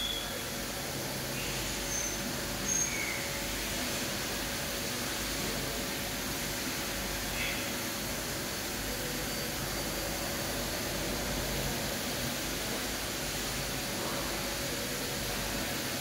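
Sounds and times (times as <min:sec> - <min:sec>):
machining centre hiss and hum: 0:00.0 - 0:16.0.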